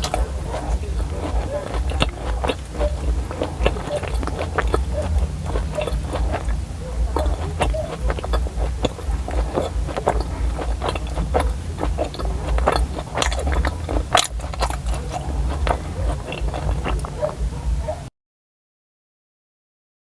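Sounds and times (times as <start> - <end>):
chewing wet mouth clicks: 0.0 - 17.4
steady low rumble: 0.0 - 18.0.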